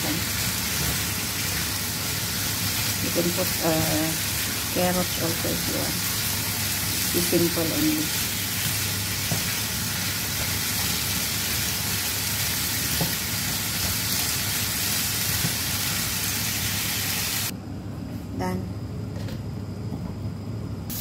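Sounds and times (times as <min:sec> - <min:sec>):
meat sizzling in a frying pan: 0:00.0 - 0:17.5.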